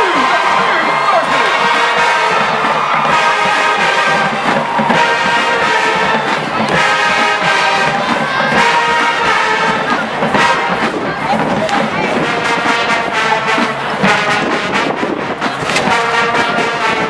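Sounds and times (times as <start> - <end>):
brass chords: 0.0 - 17.0
marching band drums: 0.0 - 17.0.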